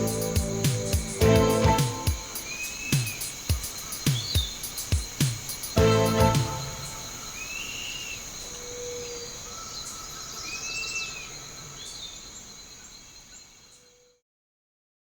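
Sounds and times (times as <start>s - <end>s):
high insect drone: 0.0s - 13.8s
bird calls: 0.0s - 14.1s.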